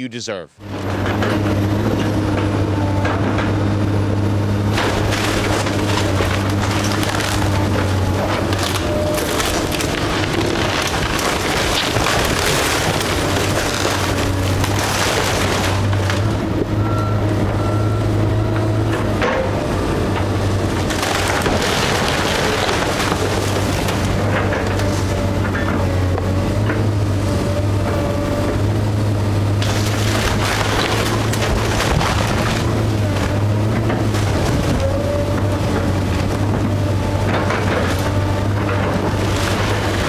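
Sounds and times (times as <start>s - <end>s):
excavator diesel engine: 0.0s - 40.0s
wood cracking and splintering: 4.5s - 16.9s, 18.5s - 40.0s.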